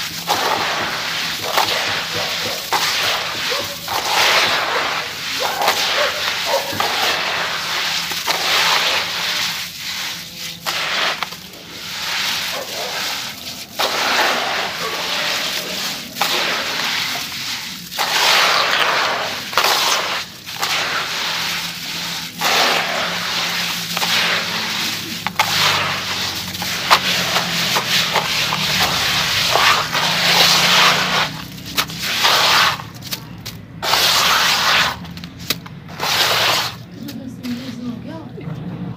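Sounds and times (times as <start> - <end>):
hands crumbling gritty cement mix: 0.0 - 37.8.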